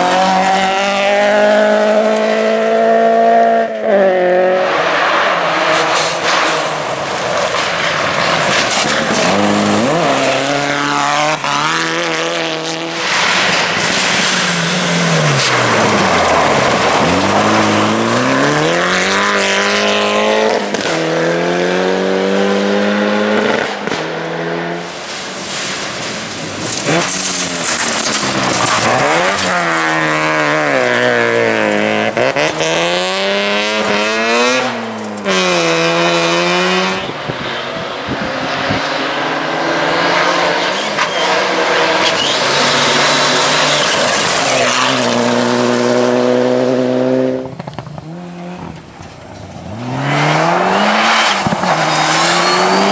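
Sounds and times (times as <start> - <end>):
rally car engines revving: 0.0 - 52.9
tyre and road noise: 0.0 - 52.9.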